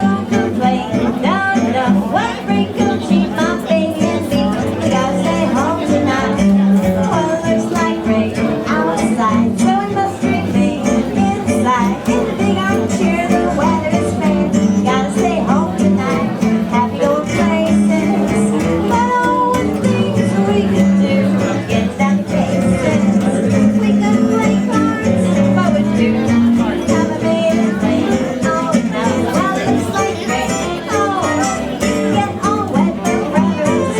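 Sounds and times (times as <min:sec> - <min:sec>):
swing jazz band playing: 0:00.0 - 0:33.9.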